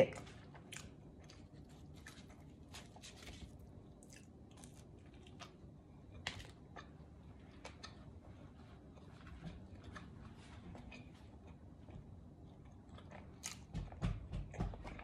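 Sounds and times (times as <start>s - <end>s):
person chewing: 0.2s - 15.0s.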